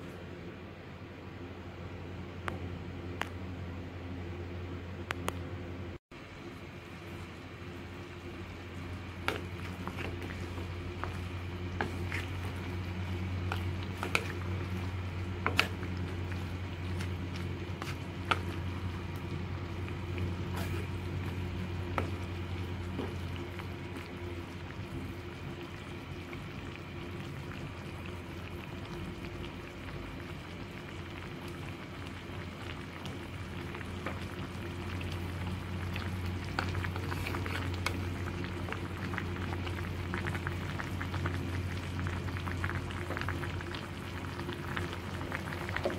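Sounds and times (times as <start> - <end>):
steady low hum: 0.0 - 45.9
broth bubbling in a pot: 6.1 - 45.9.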